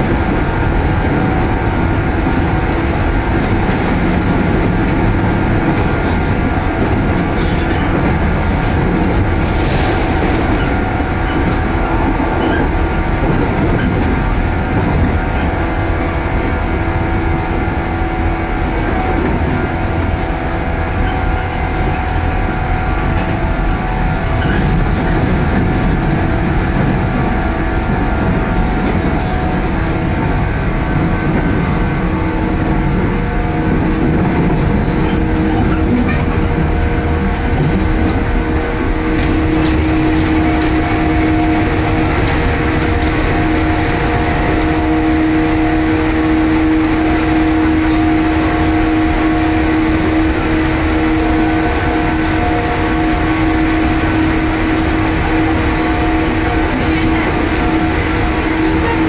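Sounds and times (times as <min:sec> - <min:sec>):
humming tones: 0:00.0 - 0:59.0
train wheels rumbling: 0:00.0 - 0:59.0.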